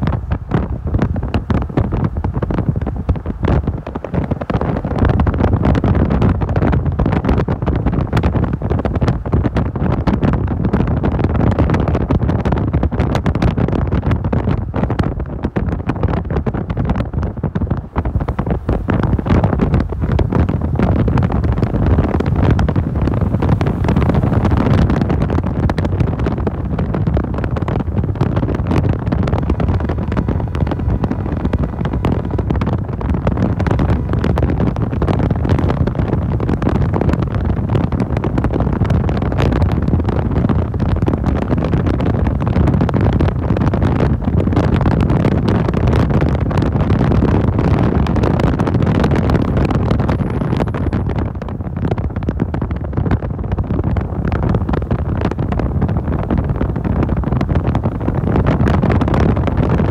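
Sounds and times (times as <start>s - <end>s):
wind and road noise: 0.0s - 59.9s
wind buffeting microphone: 0.0s - 59.9s.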